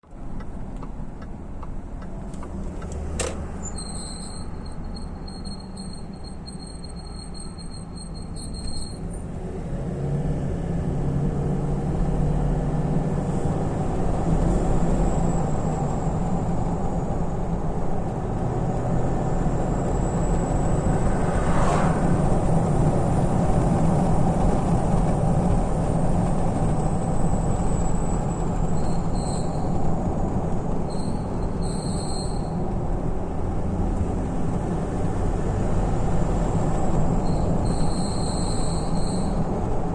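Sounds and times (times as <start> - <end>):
road and engine rumble: 0.0 - 39.9
brake squealing: 2.0 - 9.9, 11.2 - 39.9.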